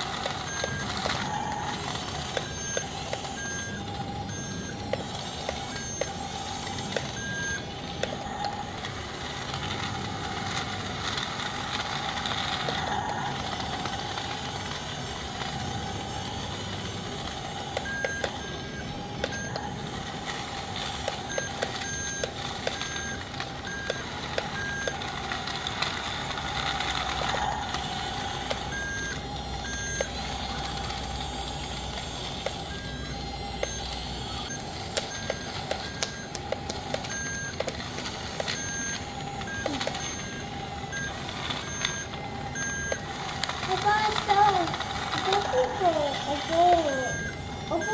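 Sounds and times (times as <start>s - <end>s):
clicks: 0.0s - 9.8s, 17.3s - 47.4s
reversing alarm beeps: 0.0s - 47.9s
toy bulldozer motor whining: 0.0s - 47.9s.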